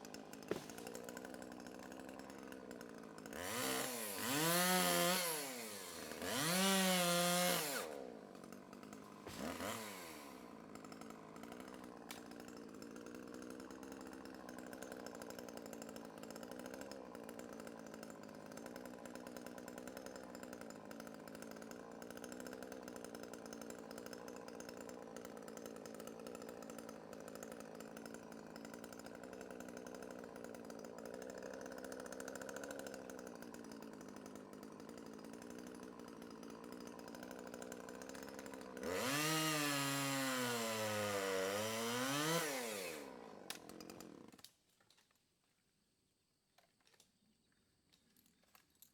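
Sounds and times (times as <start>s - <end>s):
chainsaw revving and idling: 0.0s - 44.7s.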